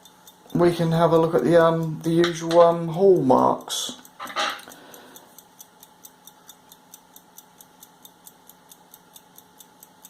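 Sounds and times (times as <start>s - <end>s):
pocket watch ticking: 0.0s - 10.0s.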